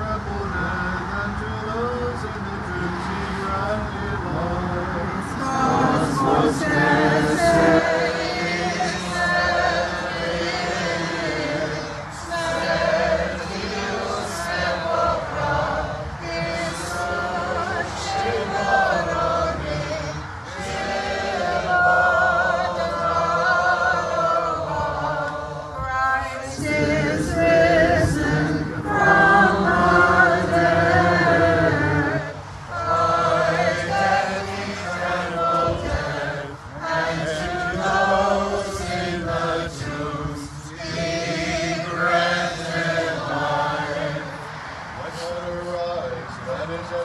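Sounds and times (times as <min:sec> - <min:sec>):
group singing liturgical chant: 0:00.0 - 0:47.0.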